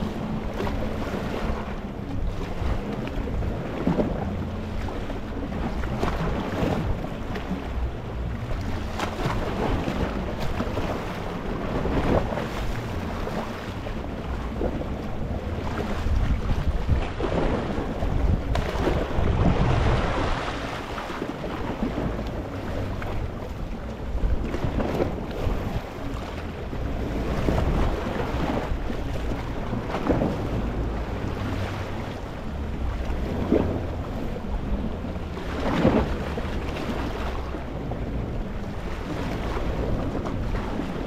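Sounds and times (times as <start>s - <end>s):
wave splashes: 0.0s - 41.0s
waves washing over rocks: 0.0s - 41.0s
wind rumble on microphone: 0.0s - 41.0s.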